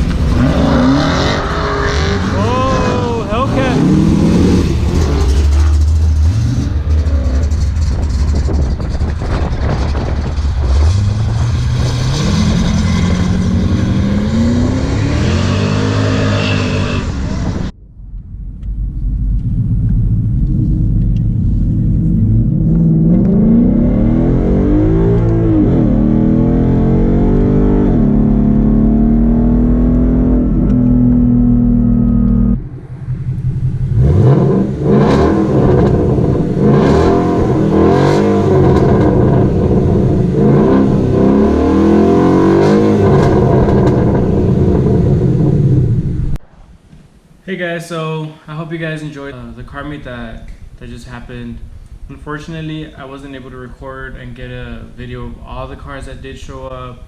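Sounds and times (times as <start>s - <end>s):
car engines idling and revving: 0.0s - 47.4s.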